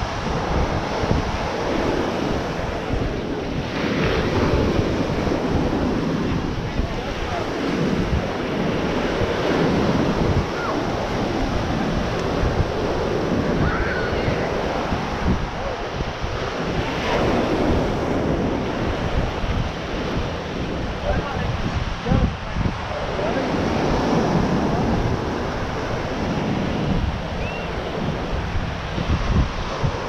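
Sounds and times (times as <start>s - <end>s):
ocean surf on sandy beach: 0.0s - 30.0s
wind buffeting microphone: 0.0s - 30.0s.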